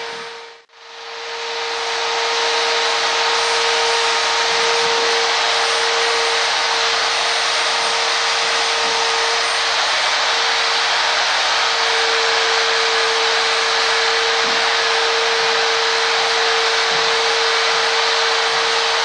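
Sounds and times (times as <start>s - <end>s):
rotary grinder on metal: 0.0s - 19.0s.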